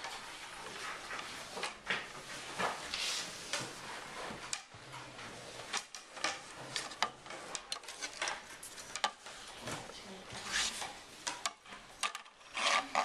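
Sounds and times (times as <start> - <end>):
pencil clicks and scrapes on desk: 0.0 - 9.5, 10.3 - 13.0.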